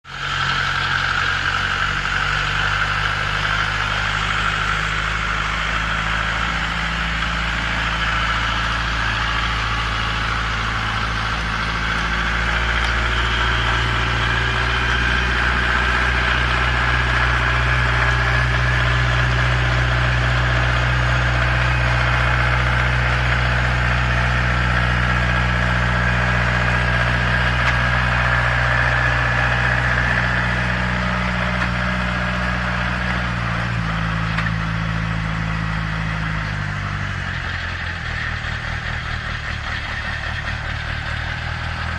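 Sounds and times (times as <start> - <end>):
dumper engine droning with whine: 0.0 - 41.9.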